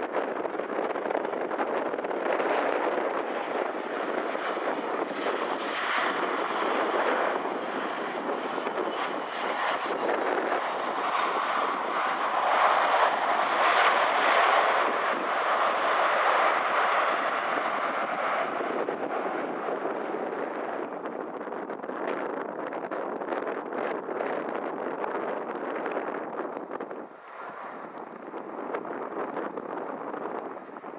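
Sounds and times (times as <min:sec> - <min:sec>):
jet engine roar: 0:00.0 - 0:30.9.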